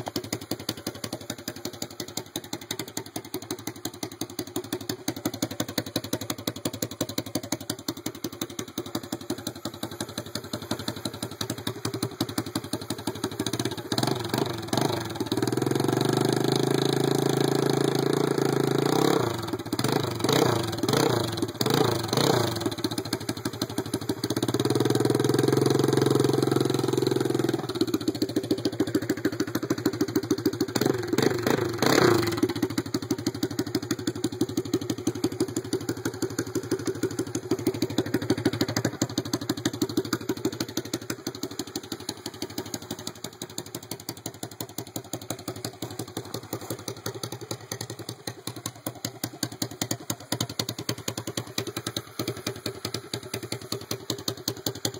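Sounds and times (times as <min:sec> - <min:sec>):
scooter engine revving and idling: 0:00.0 - 0:54.9.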